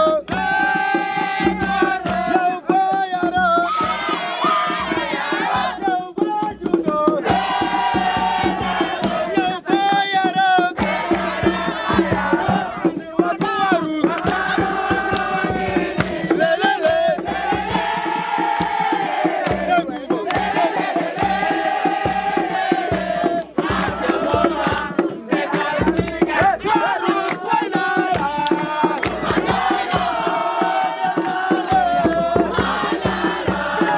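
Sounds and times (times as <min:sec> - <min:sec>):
group of voices chanting: 0:00.0 - 0:33.9
steady beat: 0:00.0 - 0:33.9.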